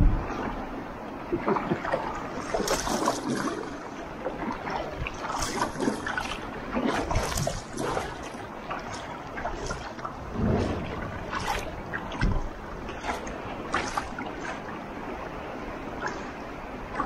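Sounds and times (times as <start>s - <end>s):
water splashing against plastic hull: 1.3s - 17.0s.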